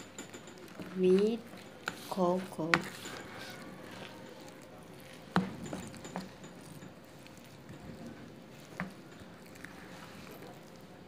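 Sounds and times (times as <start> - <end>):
spatula stirring thick batter: 0.0 - 11.0.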